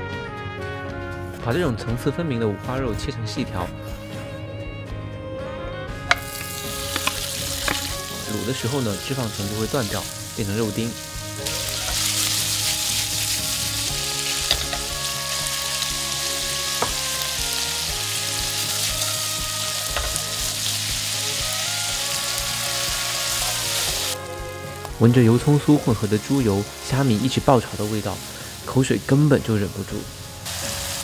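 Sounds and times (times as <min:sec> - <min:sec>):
meat sizzling in oil: 0:06.1 - 0:31.0.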